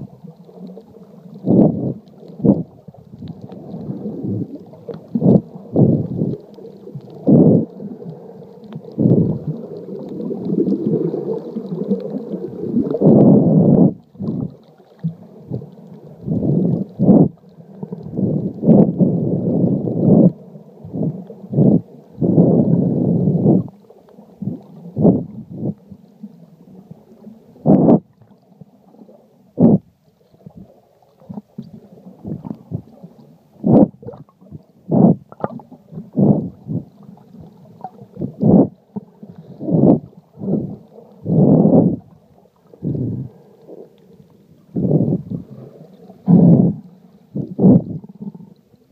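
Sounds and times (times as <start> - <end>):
underwater water sloshing: 0.0 - 48.9.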